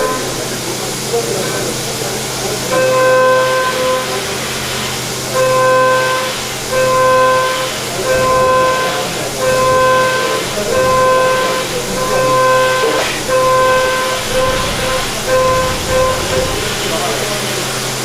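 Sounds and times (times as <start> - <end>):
cnc machining tone: 0.0 - 18.0.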